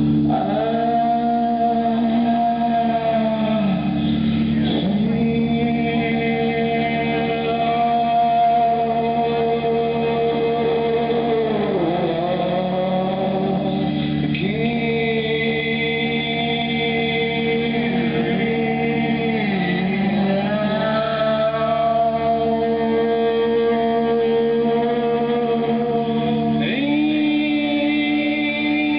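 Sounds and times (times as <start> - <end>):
long held sung notes: 0.0 - 28.9
steady drone: 0.0 - 28.9.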